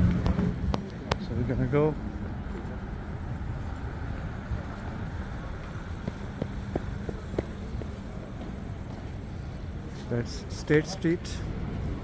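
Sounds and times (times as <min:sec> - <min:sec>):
footsteps clicking on pavement: 0:00.0 - 0:10.8
city traffic rumble: 0:00.0 - 0:12.0.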